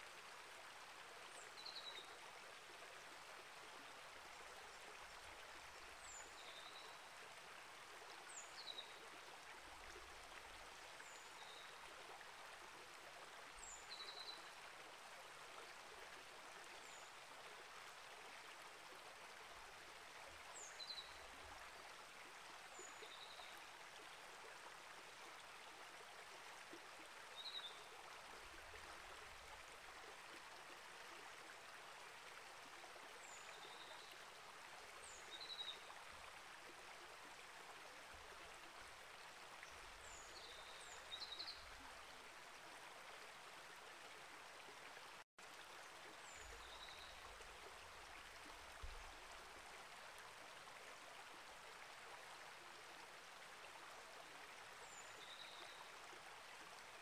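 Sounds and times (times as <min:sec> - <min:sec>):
creek flowing: 0:00.0 - 0:57.0.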